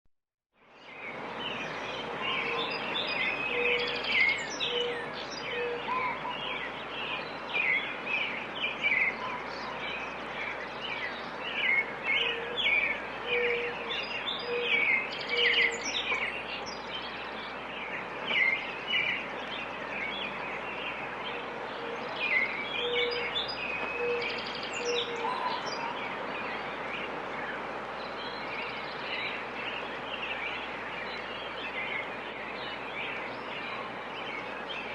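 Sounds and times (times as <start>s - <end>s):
background hiss: 0.6s - 34.9s
small birds chirping: 0.6s - 34.9s
low hooting bird call: 1.9s - 34.9s.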